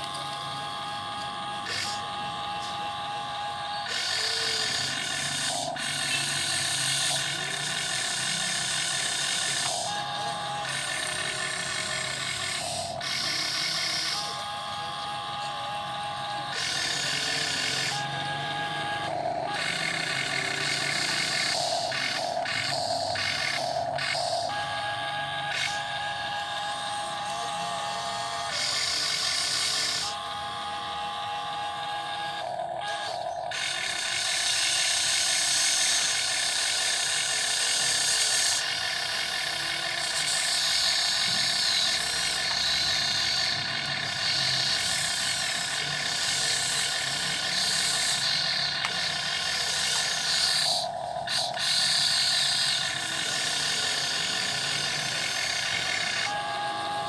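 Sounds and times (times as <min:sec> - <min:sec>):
model excavator motors whining: 0:00.0 - 0:57.0.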